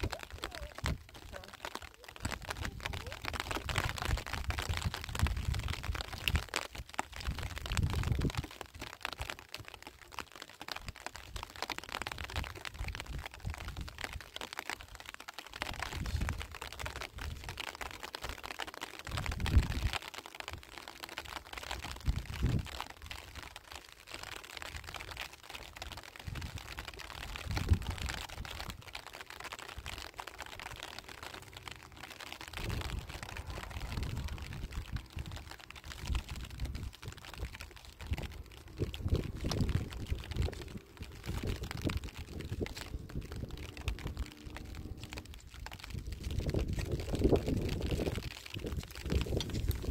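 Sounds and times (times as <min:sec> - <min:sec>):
gravel crunching and trickling: 0:00.0 - 0:49.9.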